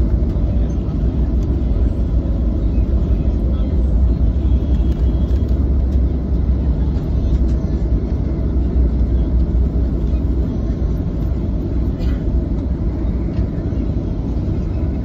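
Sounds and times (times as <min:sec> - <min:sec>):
jet engines and wheels rumbling: 0:00.0 - 0:15.0.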